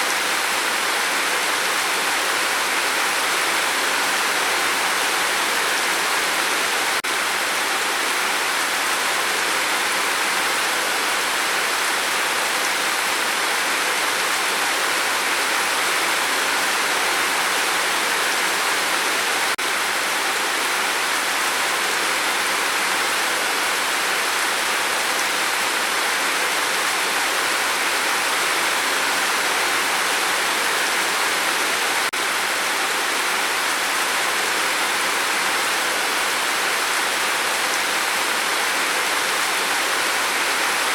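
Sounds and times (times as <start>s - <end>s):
rain falling steadily: 0.0s - 40.9s.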